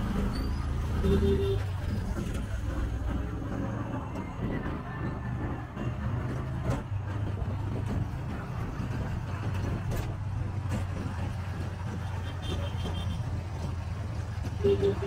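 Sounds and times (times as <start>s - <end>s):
engine hum: 0.0s - 15.0s
knocks and rattles: 0.0s - 15.0s
road and traffic noise: 0.0s - 15.0s.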